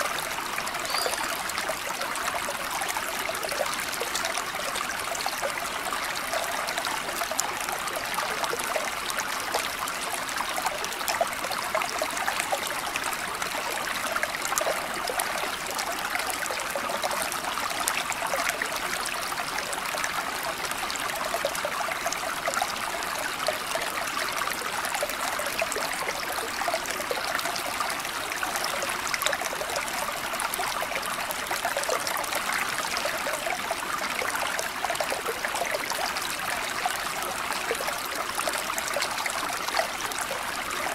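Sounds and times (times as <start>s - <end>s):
stream trickling and splashing: 0.0s - 40.9s.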